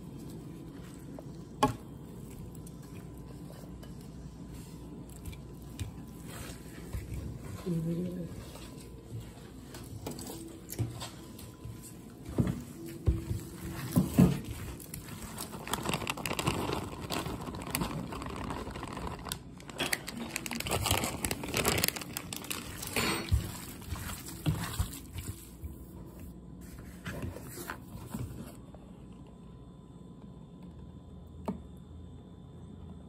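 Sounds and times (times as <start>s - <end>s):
hands kneading meat squelching: 0.0s - 28.2s.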